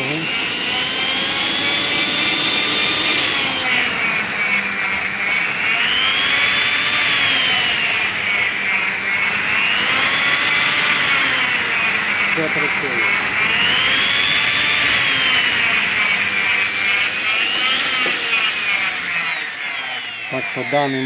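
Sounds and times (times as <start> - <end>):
food processor motor whine: 0.0 - 21.0.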